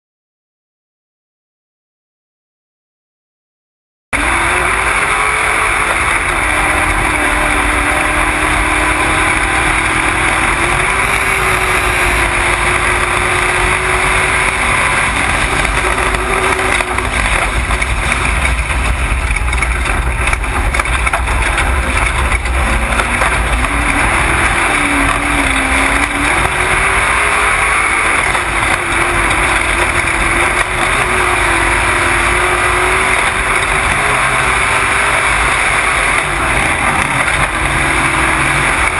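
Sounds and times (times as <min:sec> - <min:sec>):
race vehicle engine running: 0:04.2 - 0:38.9
wind and drivetrain rumble: 0:04.2 - 0:38.9.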